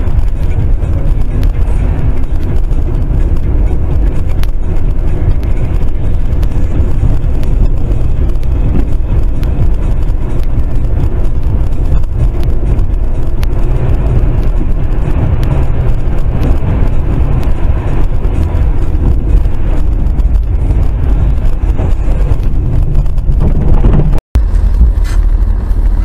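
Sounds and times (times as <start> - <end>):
car tyres and engine rumble: 0.0 - 26.0.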